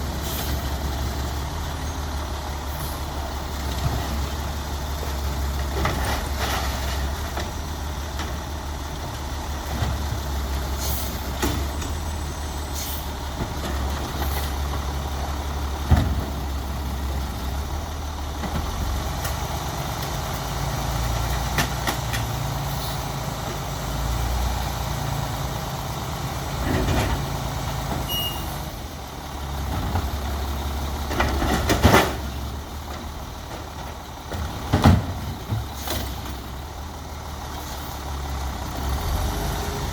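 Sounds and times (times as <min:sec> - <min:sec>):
garbage truck diesel engine running: 0:00.0 - 0:39.9.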